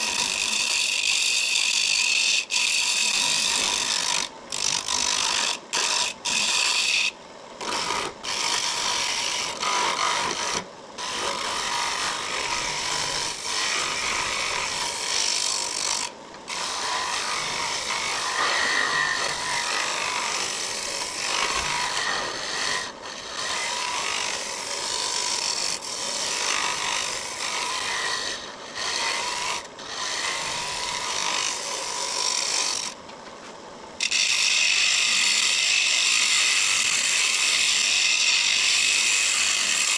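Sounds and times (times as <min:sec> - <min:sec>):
lathe tool scraping wood: 0:00.0 - 0:33.0, 0:34.0 - 0:39.9.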